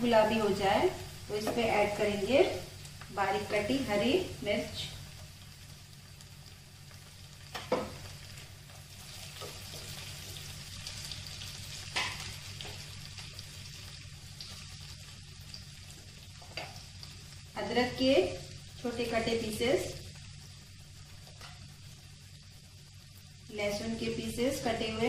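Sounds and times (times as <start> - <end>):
onions sizzling in a pot: 0.0 - 25.0.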